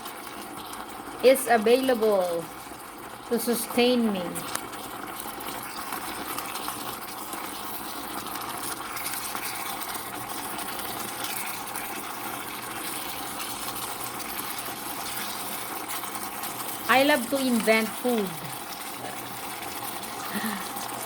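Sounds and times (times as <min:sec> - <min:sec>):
pot of food simmering: 0:00.0 - 0:21.0.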